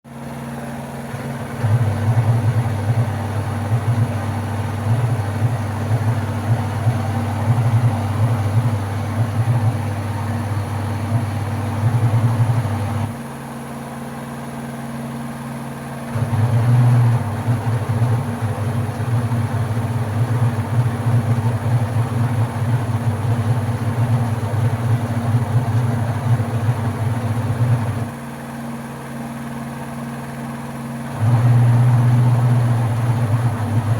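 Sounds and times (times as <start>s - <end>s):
washing machine motor humming: 0.2s - 13.3s, 16.1s - 28.2s, 31.1s - 33.9s.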